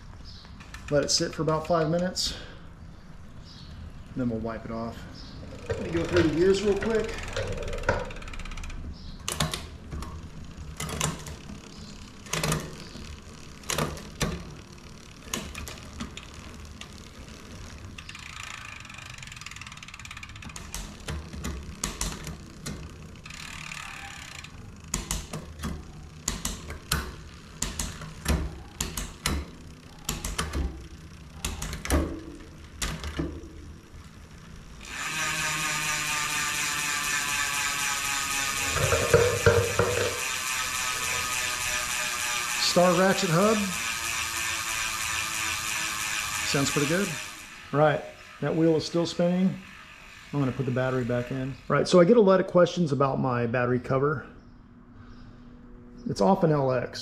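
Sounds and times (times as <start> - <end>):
bicycle chain running over cassette: 3.8 - 52.3.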